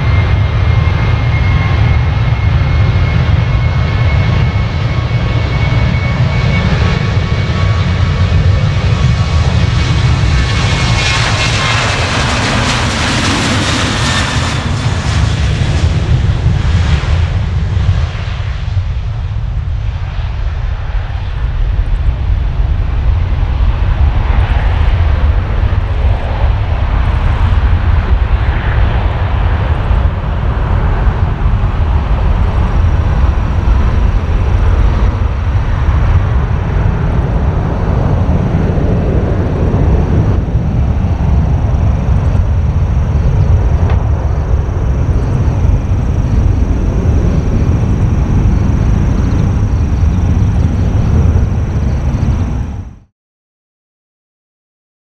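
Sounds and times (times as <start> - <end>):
high jet engine whine: 0.0 - 53.1
jet engines at takeoff: 0.0 - 53.1.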